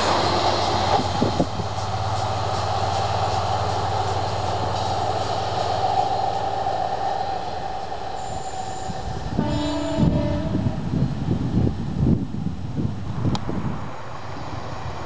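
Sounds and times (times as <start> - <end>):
train rumble and wheel noise: 0.0 - 15.0.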